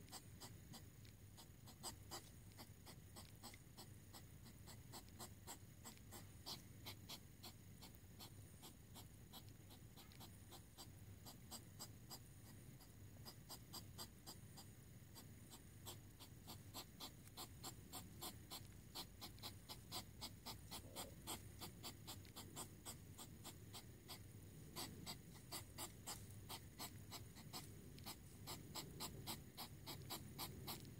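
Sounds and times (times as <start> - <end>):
hedgehog huffing and snorting: 0.0 - 30.9.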